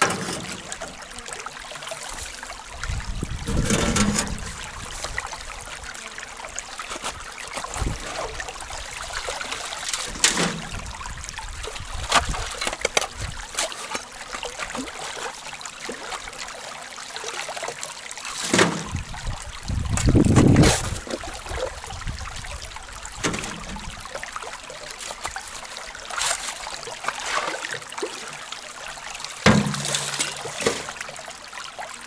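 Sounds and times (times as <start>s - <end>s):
water trickling: 0.0s - 32.0s.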